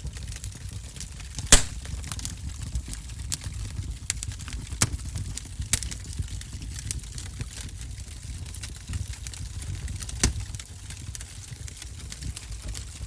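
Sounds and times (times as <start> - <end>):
wood fire crackling and popping: 1.2 - 13.0.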